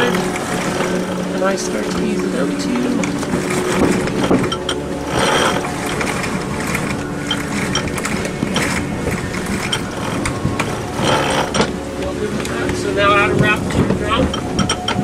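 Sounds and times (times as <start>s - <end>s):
winch ratcheting clicks: 0.0s - 12.8s, 13.6s - 15.0s.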